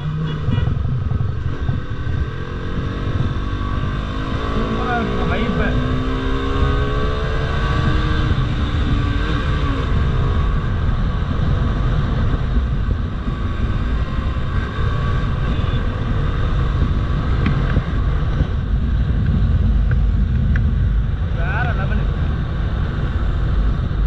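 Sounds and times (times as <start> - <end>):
motorcycle engine running: 0.0 - 24.0
wind on microphone: 0.0 - 24.0.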